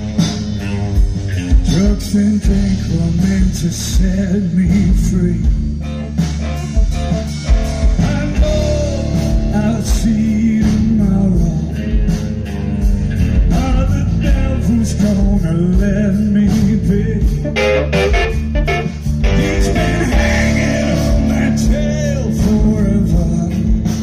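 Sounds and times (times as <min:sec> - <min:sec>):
blues-rock band playing: 0:00.0 - 0:24.0
drums beating: 0:00.0 - 0:24.0.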